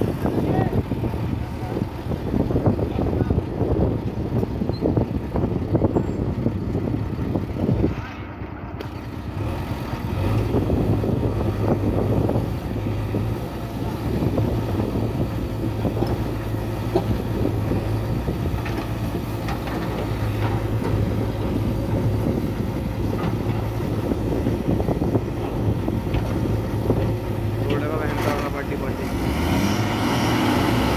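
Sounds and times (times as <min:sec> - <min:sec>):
diesel engine rumble: 0:00.0 - 0:30.9.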